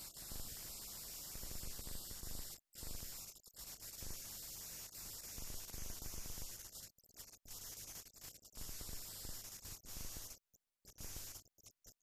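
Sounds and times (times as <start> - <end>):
film soundtrack hiss and crackle: 0.0 - 12.0.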